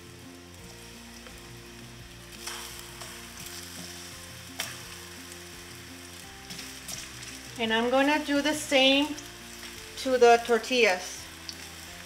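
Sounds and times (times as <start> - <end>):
slices sizzling in hot oil: 0.0 - 12.0.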